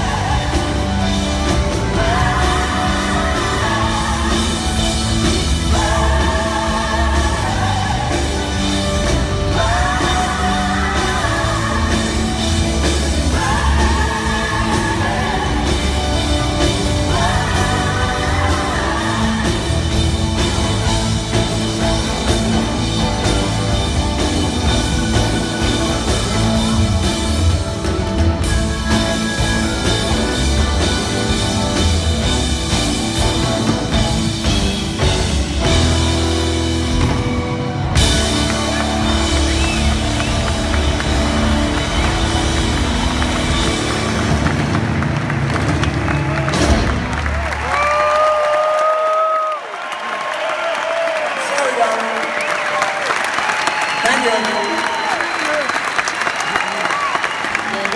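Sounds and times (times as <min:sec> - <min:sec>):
electric guitar: 0:00.0 - 0:49.3
drum kit: 0:00.0 - 0:49.6.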